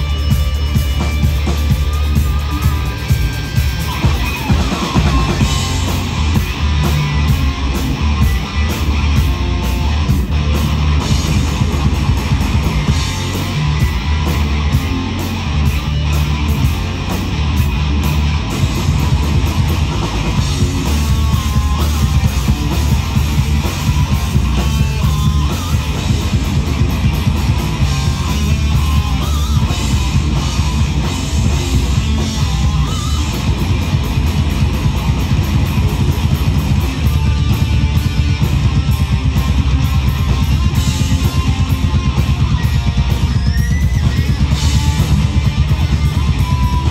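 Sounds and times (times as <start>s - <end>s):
live rock band: 0.0s - 46.9s.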